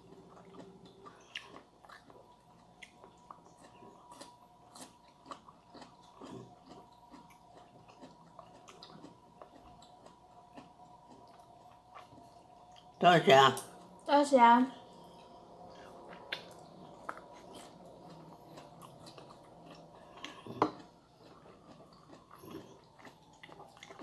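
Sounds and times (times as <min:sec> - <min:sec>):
person chewing: 0:00.0 - 0:13.0, 0:14.9 - 0:24.0
faint steady whine: 0:00.0 - 0:24.0.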